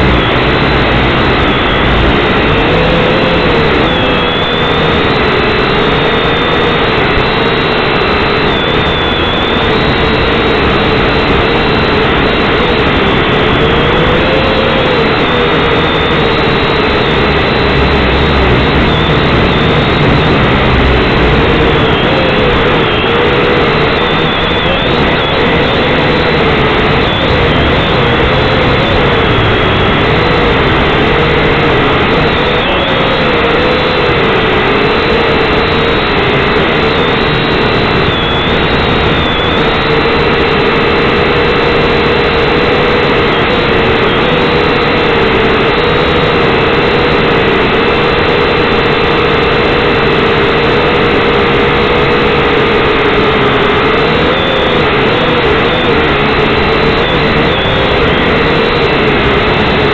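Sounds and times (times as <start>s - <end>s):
drone motors and propellers whining: 0.0s - 59.9s.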